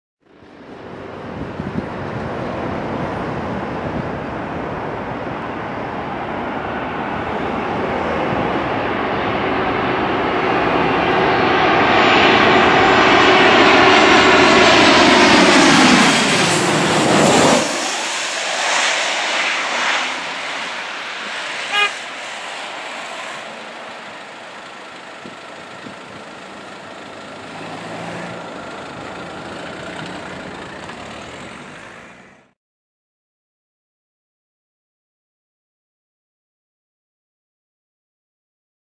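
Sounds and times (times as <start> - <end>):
jet engine whine: 0.2 - 32.6
jet airliner passing overhead: 0.3 - 32.6.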